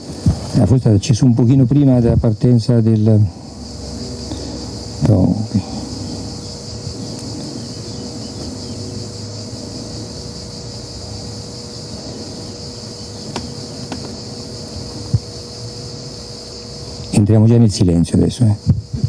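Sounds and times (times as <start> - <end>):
crickets chirping: 0.0 - 19.0
low hum and rumble: 0.0 - 19.0.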